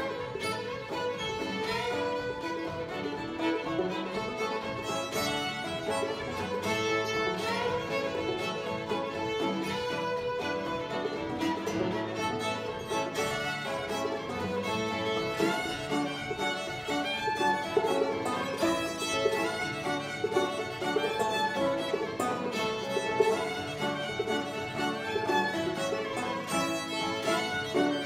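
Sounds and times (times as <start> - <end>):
banjo: 0.0 - 28.0
fiddles bowing melody: 0.0 - 28.0.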